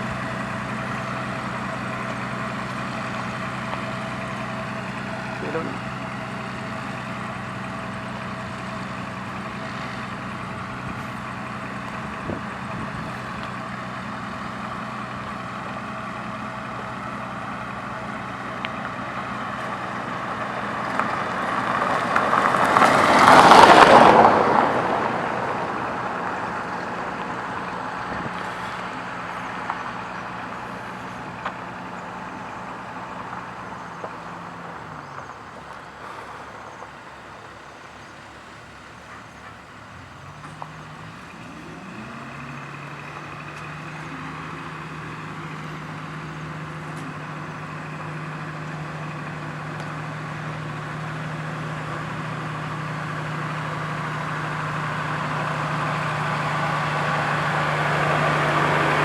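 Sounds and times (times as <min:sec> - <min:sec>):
diesel engine running: 0:00.0 - 0:59.0
vehicle passing: 0:00.0 - 0:59.0.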